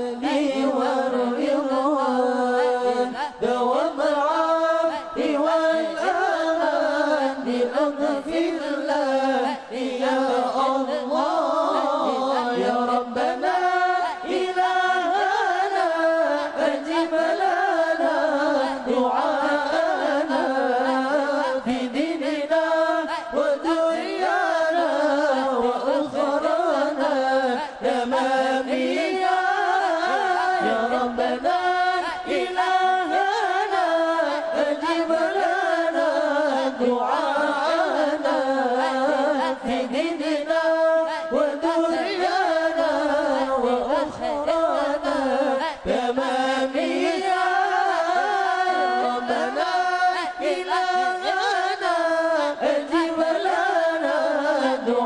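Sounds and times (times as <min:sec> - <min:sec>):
person singing devotional song: 0:00.0 - 0:55.0.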